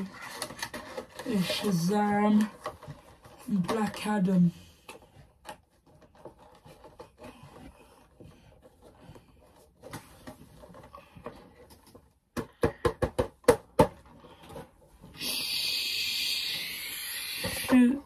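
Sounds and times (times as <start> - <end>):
boxes rustling and clicking: 0.0 - 15.2.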